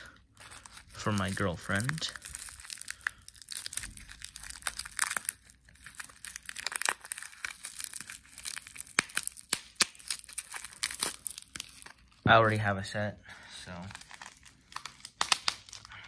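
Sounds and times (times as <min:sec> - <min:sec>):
plastic bag crinkling: 0:00.0 - 0:12.9, 0:13.6 - 0:16.0.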